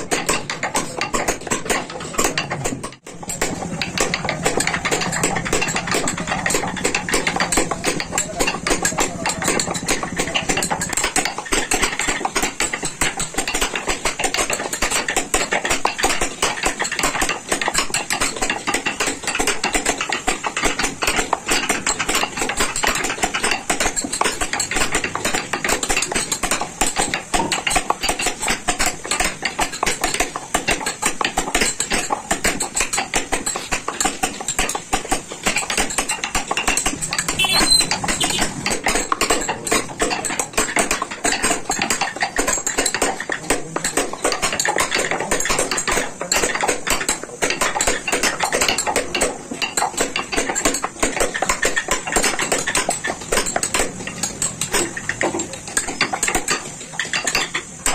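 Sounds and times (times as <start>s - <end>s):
hammer tapping chisel into wood: 0.0s - 53.9s.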